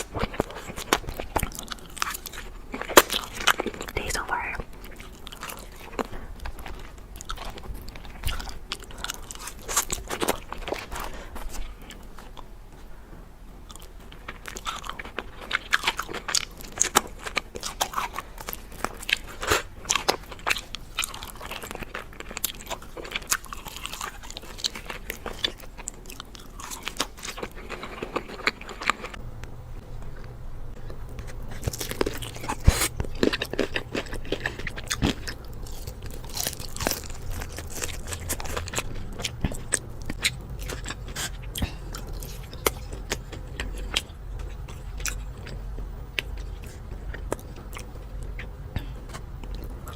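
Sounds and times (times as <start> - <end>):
crunching crispy food: 0.0 - 12.4, 13.7 - 29.2, 30.2 - 49.9
chewing: 0.0 - 12.9, 13.5 - 29.2, 30.0 - 49.9
steady low hum: 0.0 - 49.9.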